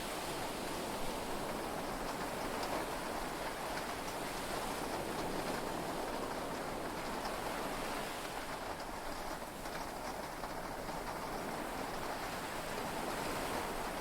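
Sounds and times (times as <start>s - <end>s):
patter of raindrops: 0.0s - 14.0s.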